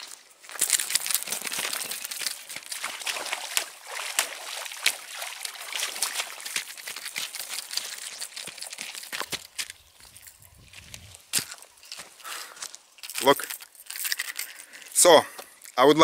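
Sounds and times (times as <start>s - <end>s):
boots wading through shallow water: 0.0s - 15.0s
water drips: 0.0s - 15.8s.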